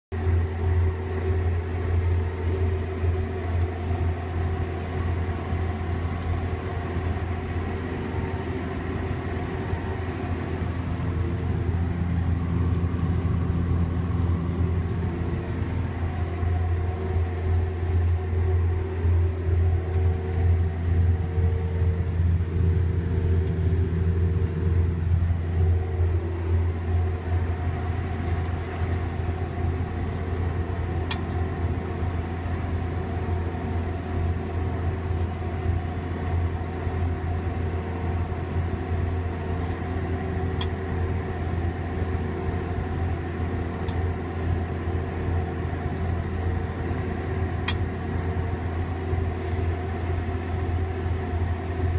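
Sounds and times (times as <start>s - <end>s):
crop sprayer engine drone: 0.2s - 51.9s.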